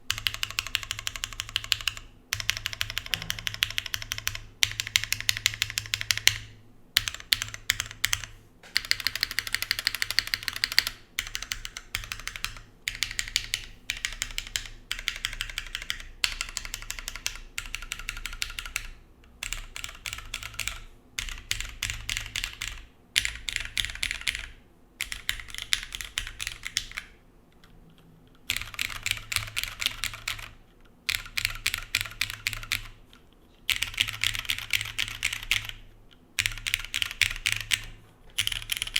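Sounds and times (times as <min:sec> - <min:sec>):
typing on mechanical keyboard: 0:00.1 - 0:38.9.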